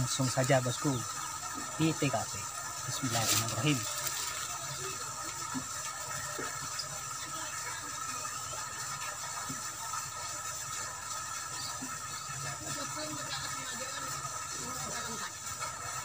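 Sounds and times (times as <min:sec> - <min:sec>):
constant high tones: 0:00.0 - 0:16.0.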